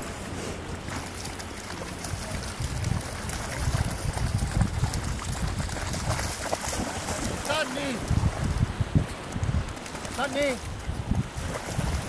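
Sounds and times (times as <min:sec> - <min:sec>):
dogs splashing through water: 0:00.2 - 0:12.0
wind buffeting microphone: 0:00.7 - 0:12.0.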